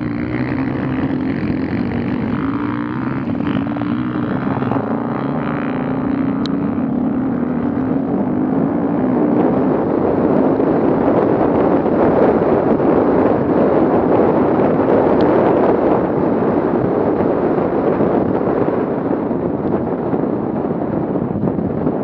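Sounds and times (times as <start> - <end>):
vehicle engine roaring: 0.0 - 22.0
wind buffeting microphone: 0.0 - 22.0.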